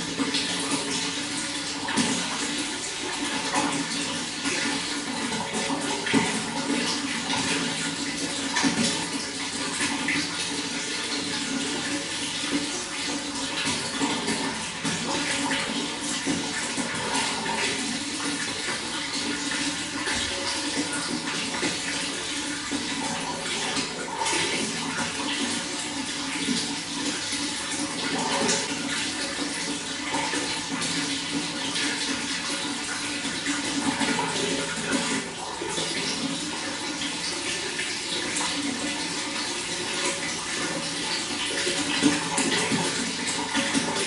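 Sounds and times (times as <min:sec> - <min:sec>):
running water flowing: 0:00.0 - 0:44.0.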